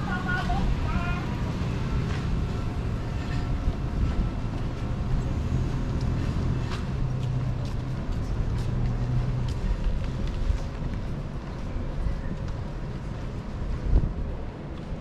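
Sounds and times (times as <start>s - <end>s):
motor vehicle humming: 0.0s - 15.0s.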